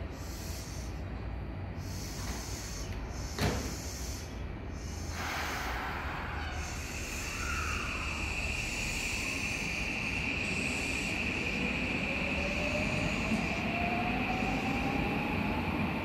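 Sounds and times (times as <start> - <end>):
train rushing on rails: 0.0 - 16.0
high-pitched whine: 1.8 - 15.6.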